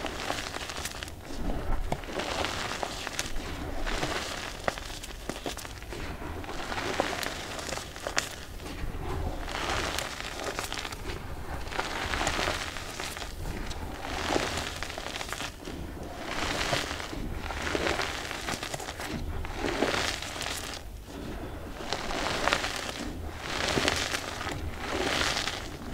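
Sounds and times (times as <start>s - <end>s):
chalk crunching between hands: 0.0s - 25.9s
sharp crackles: 0.0s - 25.9s.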